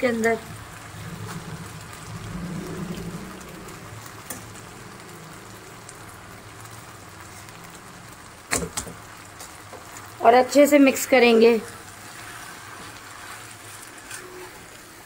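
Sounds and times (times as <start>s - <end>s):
stir-fry sizzling in a wok: 0.0s - 15.0s.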